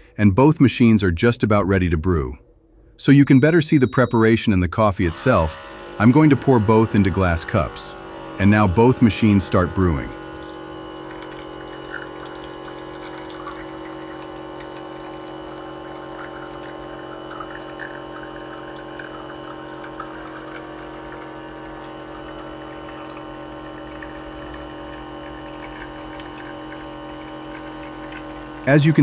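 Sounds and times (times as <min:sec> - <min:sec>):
espresso dripping into glass cups: 0:03.0 - 0:29.0
espresso machine pumps humming: 0:03.4 - 0:04.3, 0:05.0 - 0:29.0.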